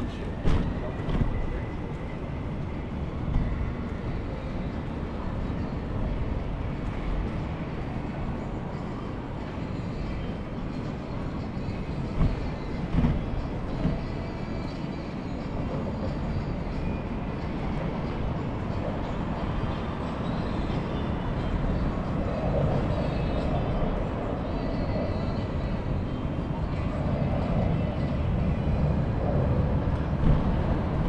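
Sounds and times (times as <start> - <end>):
street and vehicle rumble: 0.0 - 31.0.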